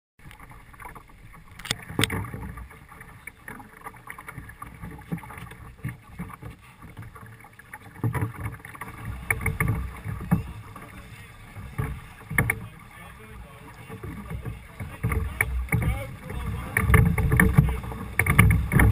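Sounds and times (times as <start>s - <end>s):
wind and water rushing: 0.2s - 18.9s
wooden oars knocking against boat: 0.2s - 18.9s.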